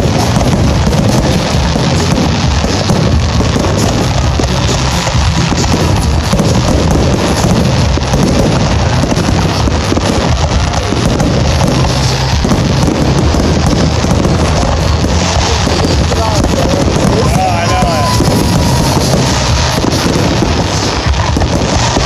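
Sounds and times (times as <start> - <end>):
fireworks crackling and bursting: 0.0 - 22.0
music: 0.0 - 22.0.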